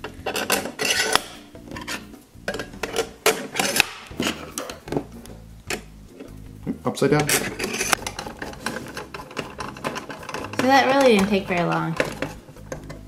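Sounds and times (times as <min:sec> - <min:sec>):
screwdriver clicking and scraping on metal: 0:00.0 - 0:05.0, 0:07.2 - 0:13.0.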